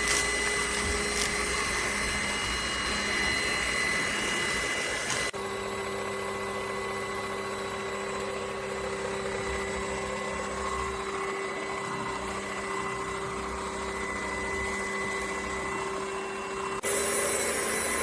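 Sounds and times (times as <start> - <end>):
stick vacuum running: 0.0 - 18.0.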